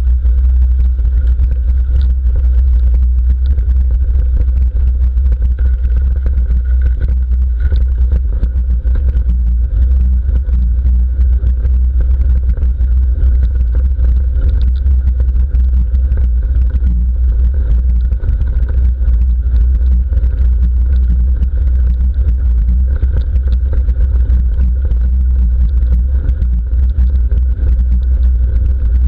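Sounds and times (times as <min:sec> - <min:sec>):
rumble of wind and tyres: 0:00.0 - 0:29.0
faint scattered ticks: 0:00.6 - 0:29.0.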